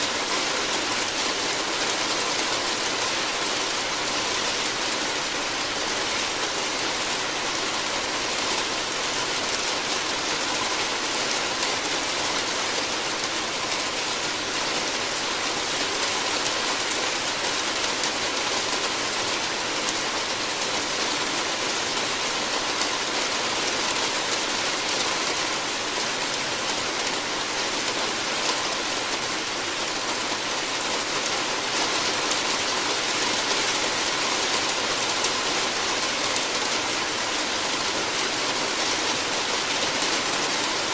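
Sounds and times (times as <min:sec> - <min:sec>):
rain on a roof: 0:00.0 - 0:40.9.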